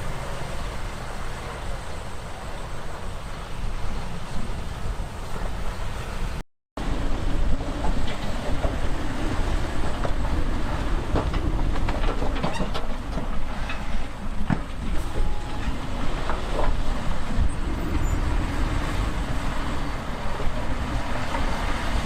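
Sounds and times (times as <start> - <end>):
bulldozer diesel engine under load: 0.0 - 22.0
steel tracks clanking: 0.0 - 22.0.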